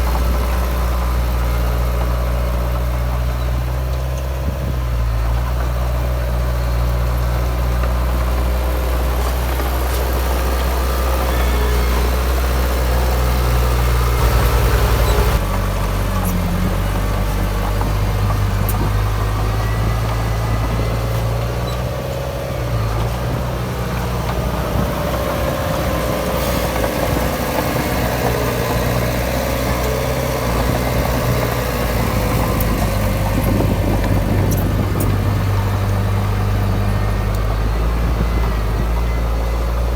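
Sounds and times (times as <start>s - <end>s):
heavy machinery diesel engines running: 0.0s - 39.9s.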